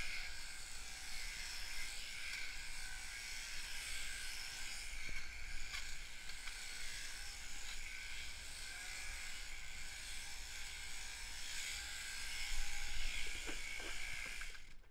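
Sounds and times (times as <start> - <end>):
sheep shears buzzing: 0.0 - 14.9.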